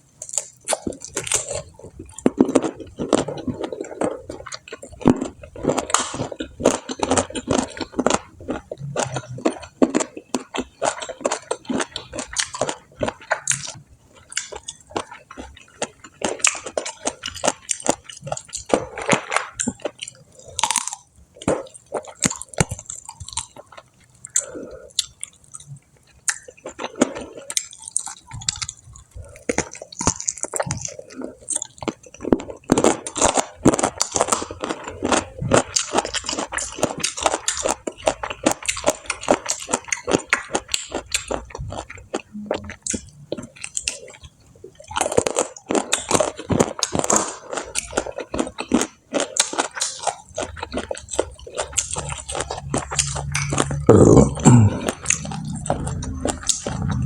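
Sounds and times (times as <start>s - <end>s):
chewing crispy fried food: 0.0s - 57.0s.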